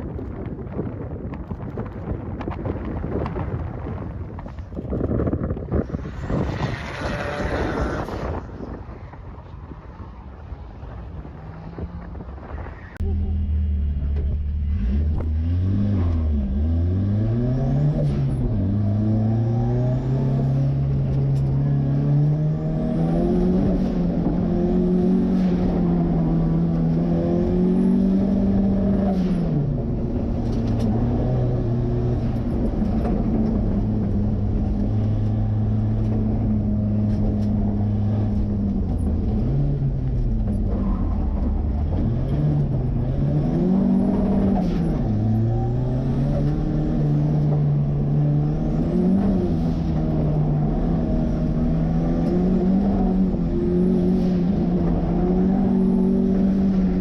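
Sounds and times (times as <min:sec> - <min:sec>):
car engine revving: 0:05.8 - 0:08.8, 0:11.3 - 0:57.0.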